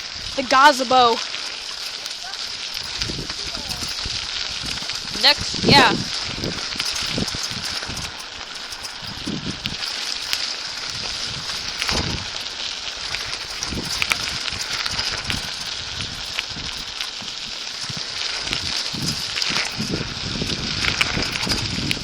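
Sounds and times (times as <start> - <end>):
bicycle tyres rolling on path: 0.0 - 22.0
wind thumps on microphone: 2.7 - 8.2, 8.9 - 9.9, 10.8 - 22.0.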